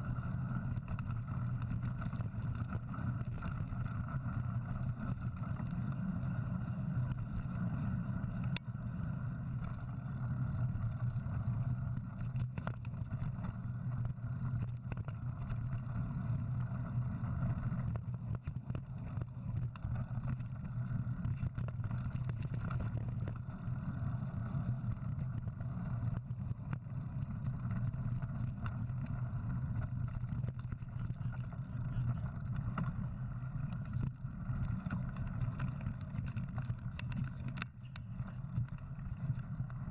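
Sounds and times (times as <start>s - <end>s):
bike tyres rolling on dirt: 0.0s - 39.9s.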